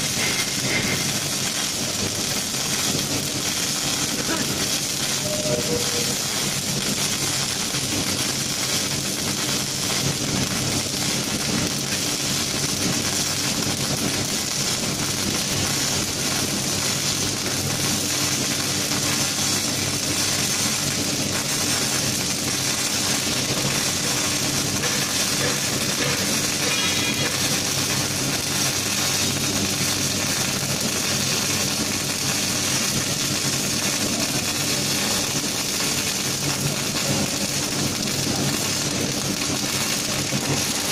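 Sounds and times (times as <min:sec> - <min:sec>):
welding arc sizzling: 0:00.0 - 0:40.9.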